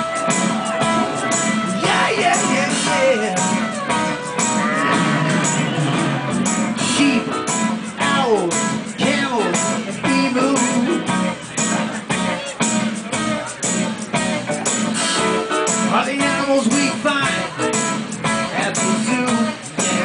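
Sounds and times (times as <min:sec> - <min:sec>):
amplified guitar strumming: 0:00.0 - 0:20.0.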